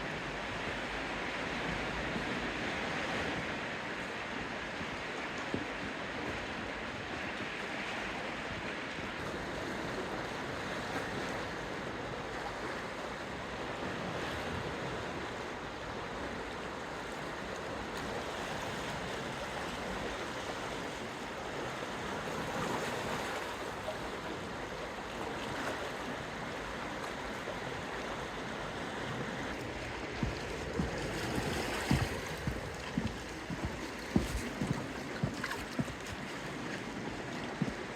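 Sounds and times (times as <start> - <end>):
sea water rushing: 0.0 - 37.9
wind: 0.0 - 37.9.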